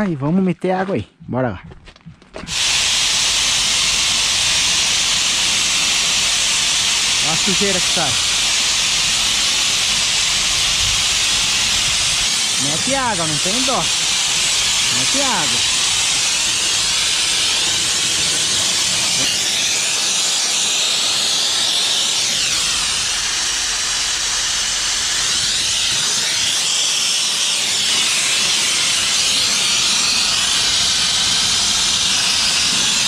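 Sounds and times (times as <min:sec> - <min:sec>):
pressure washer spraying water: 0:02.4 - 0:33.0.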